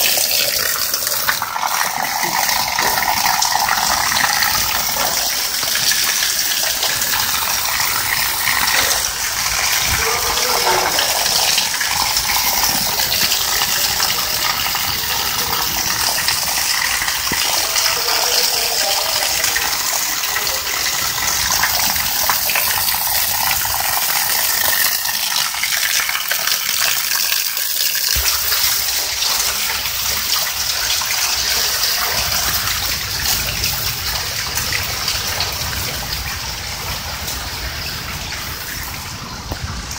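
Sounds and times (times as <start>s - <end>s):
heavy rain splashing on ground: 0.0s - 39.9s.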